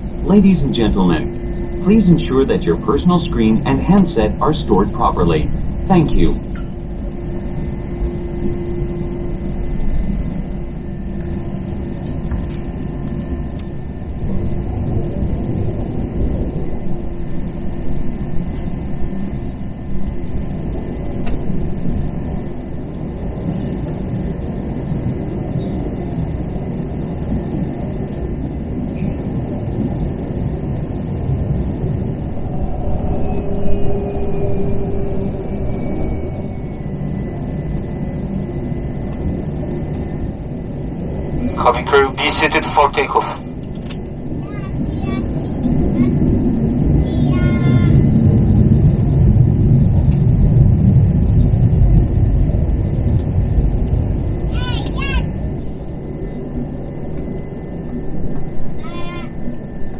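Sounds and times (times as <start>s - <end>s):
jet engines low rumble: 0.0s - 59.9s
steady hum: 0.0s - 59.9s.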